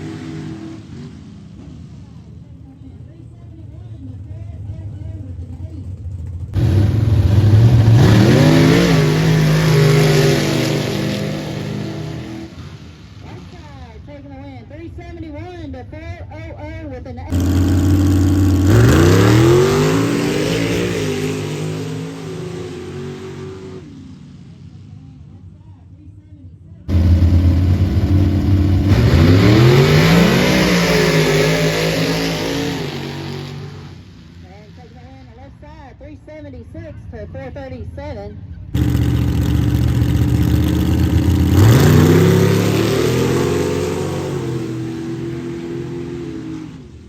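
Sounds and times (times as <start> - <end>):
racing truck engines at full throttle: 0.0 - 13.7, 17.3 - 25.6, 26.8 - 35.0, 38.6 - 47.0.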